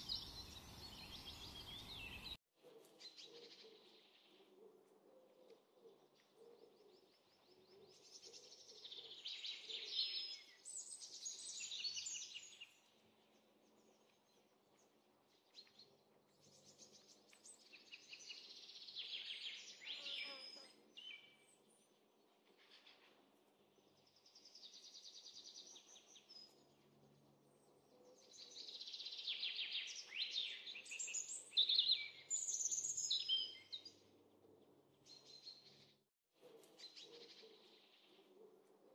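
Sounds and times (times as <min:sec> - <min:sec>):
small birds chirping: 0:00.0 - 0:02.4, 0:05.6 - 0:36.0.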